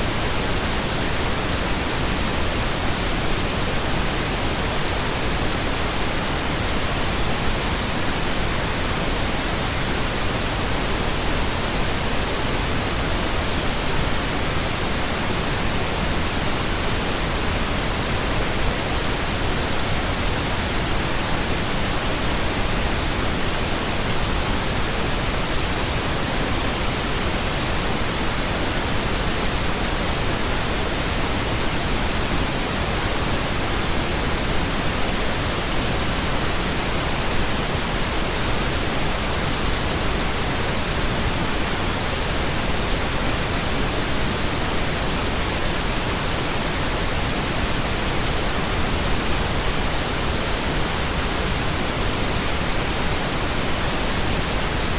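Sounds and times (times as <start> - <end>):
pink noise hiss: 0.0 - 54.9.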